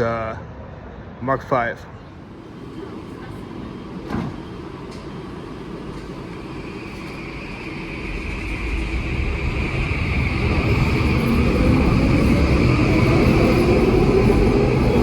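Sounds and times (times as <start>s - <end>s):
train rumble: 2.1s - 15.0s
train motor whine: 2.2s - 15.0s.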